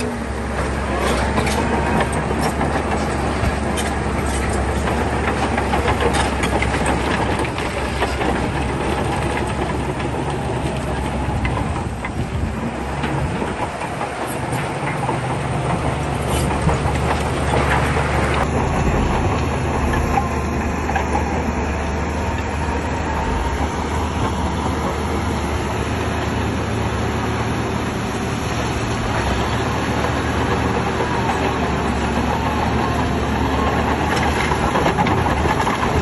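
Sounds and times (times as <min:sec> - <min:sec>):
bulldozer diesel engine humming: 0:00.0 - 0:36.0
steel tracks clattering: 0:00.0 - 0:36.0.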